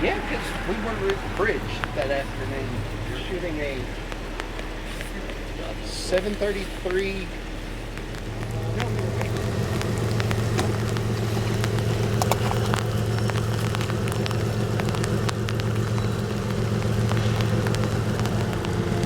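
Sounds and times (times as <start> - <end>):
engine humming: 0.0 - 19.0
sharp ticks: 0.0 - 19.0.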